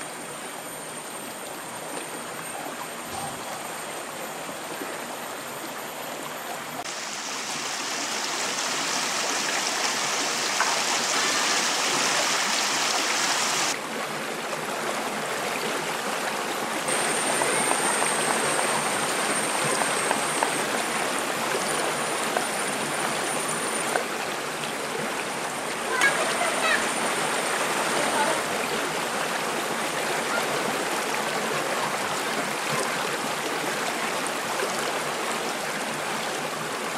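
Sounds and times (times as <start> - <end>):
stream rushing over rocks: 6.8 - 36.9.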